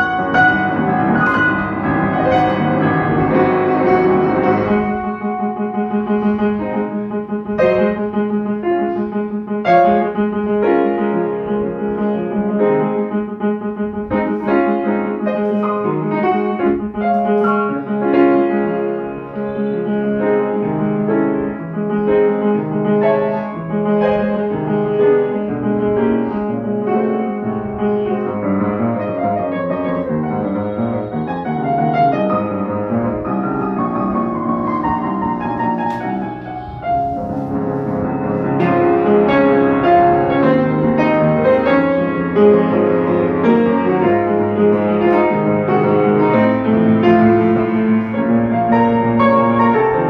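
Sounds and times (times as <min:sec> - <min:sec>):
acoustic piano playing: 0:00.0 - 0:50.0.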